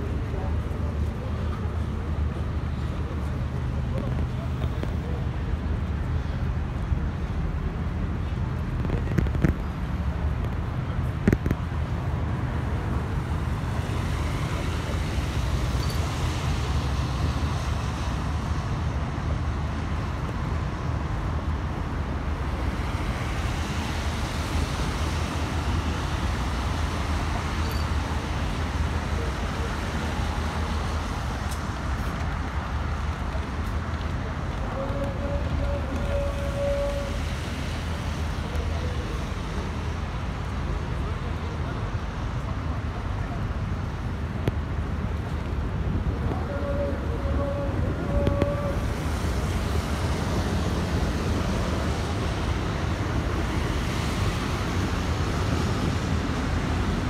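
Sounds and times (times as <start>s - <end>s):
low rumble of road traffic: 0.0s - 57.0s.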